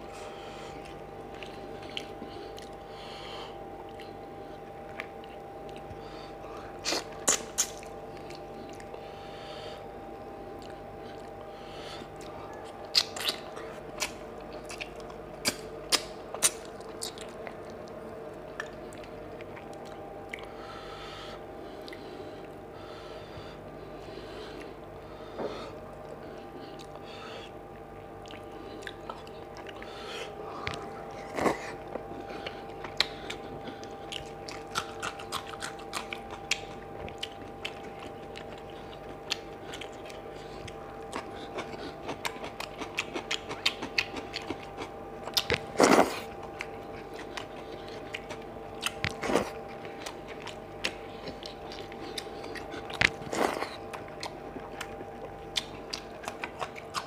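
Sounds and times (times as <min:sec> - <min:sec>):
faint steady hum: 0:00.0 - 0:57.0
wet chewing and lip-smacking: 0:00.2 - 0:03.2, 0:03.8 - 0:09.2, 0:10.4 - 0:20.6, 0:25.8 - 0:57.0.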